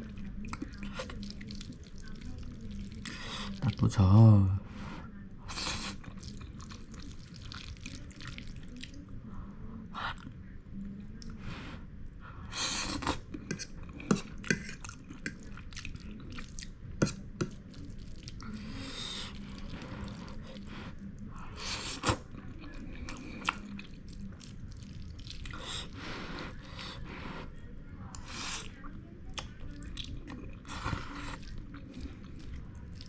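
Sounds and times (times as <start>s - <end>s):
wet slurping and chewing: 0.0s - 3.9s, 5.5s - 9.0s, 12.5s - 27.5s, 28.1s - 33.0s.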